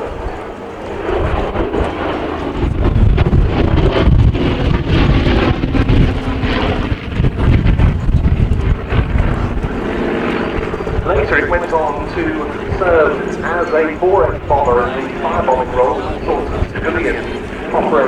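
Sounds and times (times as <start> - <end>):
aircraft radial engines flying past: 0.0 - 18.0
wind buffeting the microphone: 0.0 - 18.0.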